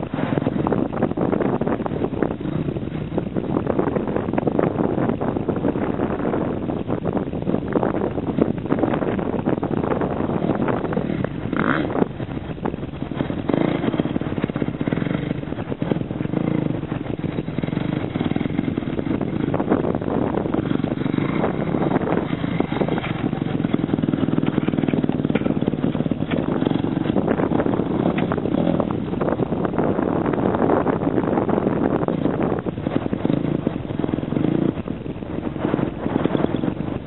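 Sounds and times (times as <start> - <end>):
motocross bike engine: 0.0 - 37.0.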